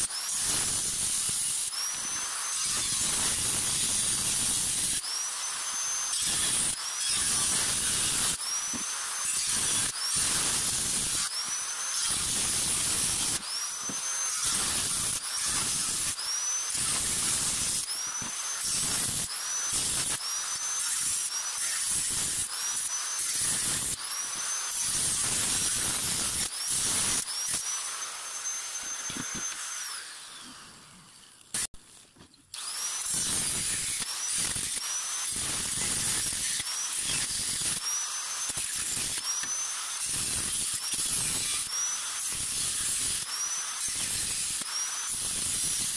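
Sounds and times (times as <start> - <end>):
angle grinder cutting steel: 0.0 - 31.8, 32.5 - 45.9.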